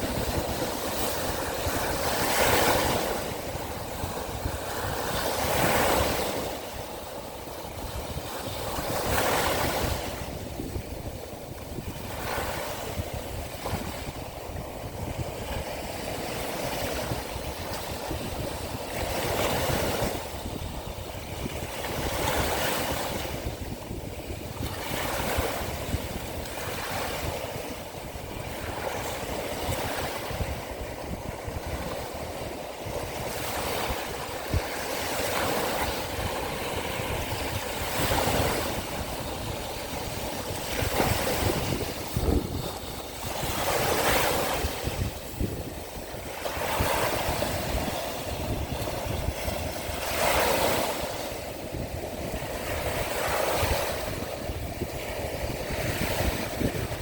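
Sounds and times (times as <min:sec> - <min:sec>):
sea waves washing on shore: 0:00.0 - 0:57.0
wind rumble on microphone: 0:00.0 - 0:57.0.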